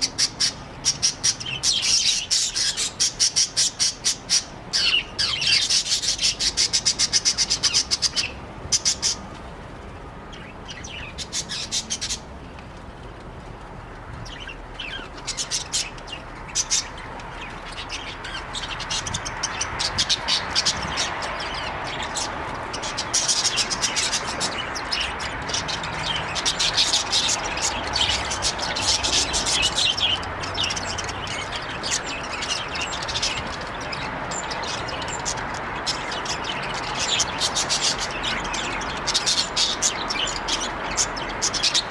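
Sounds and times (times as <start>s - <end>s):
budgies chirping: 0.0s - 9.4s, 10.3s - 12.3s, 14.1s - 41.9s.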